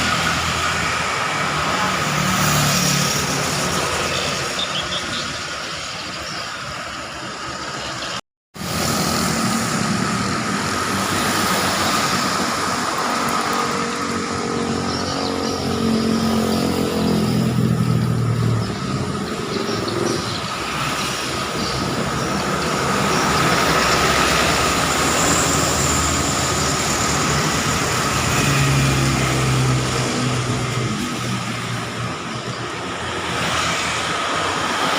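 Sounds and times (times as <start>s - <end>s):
road traffic passing: 0.0s - 34.9s.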